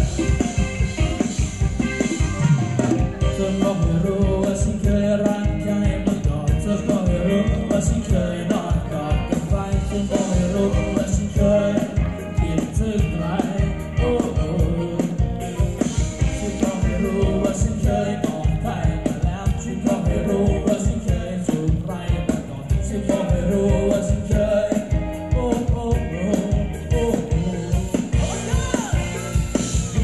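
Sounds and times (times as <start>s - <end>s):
live band playing dance music: 0.0s - 30.0s
person singing: 0.0s - 30.0s
quick drum beat: 0.0s - 30.0s.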